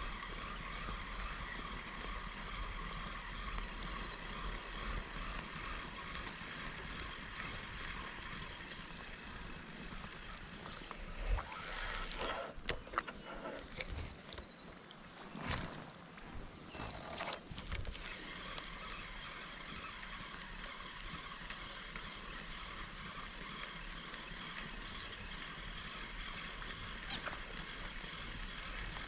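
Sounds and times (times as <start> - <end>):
spinning reel gears whirring: 0.0 - 14.5, 15.4 - 29.0.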